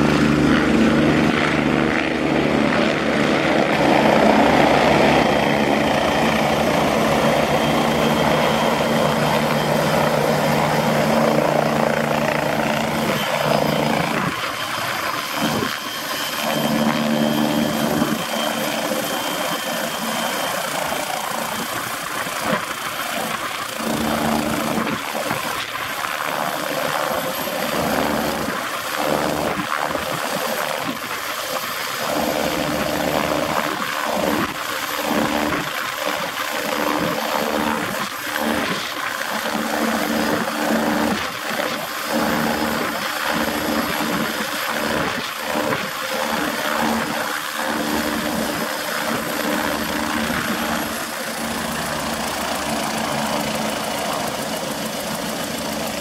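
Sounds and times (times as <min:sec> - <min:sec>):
helicopter rotor: 0:00.0 - 0:56.0
high-pitched turbine whine: 0:00.0 - 0:56.0.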